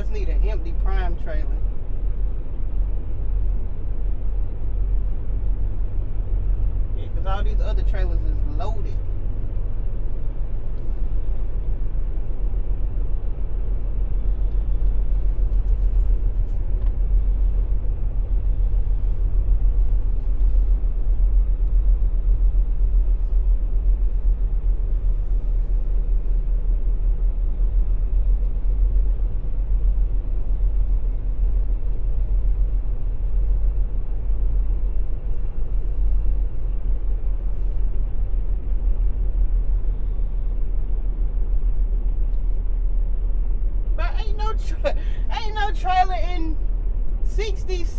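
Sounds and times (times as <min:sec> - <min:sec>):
truck diesel engine rumbling: 0:00.0 - 0:47.9.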